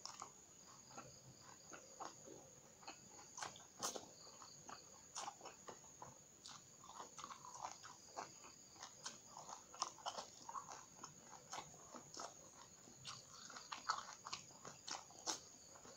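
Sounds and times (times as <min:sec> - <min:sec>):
chewing and crunching raw eggplant: 0:00.0 - 0:15.9.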